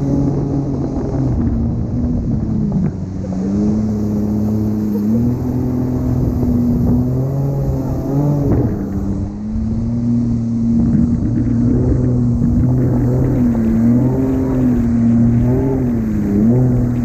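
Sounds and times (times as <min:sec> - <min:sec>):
jet ski engine running: 0:00.0 - 0:17.0
water rushing: 0:00.0 - 0:17.0.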